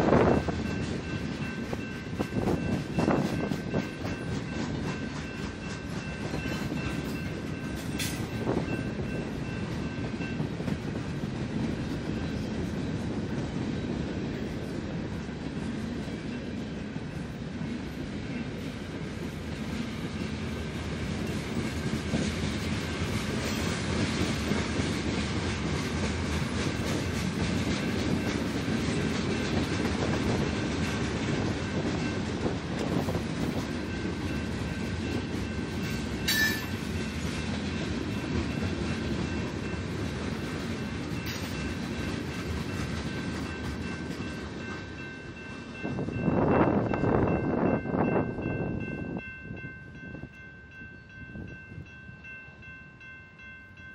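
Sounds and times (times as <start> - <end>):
clickety-clack over rail joints: 0.0 - 48.4
train wheels rumbling on rail: 0.0 - 53.9.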